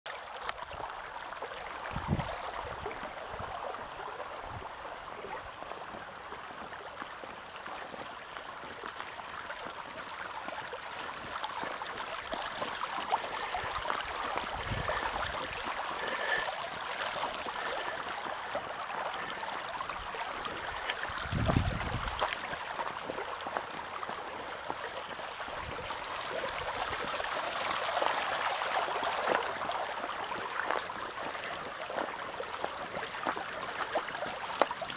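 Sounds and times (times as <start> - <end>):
water trickling along a flume: 0.1 - 34.9.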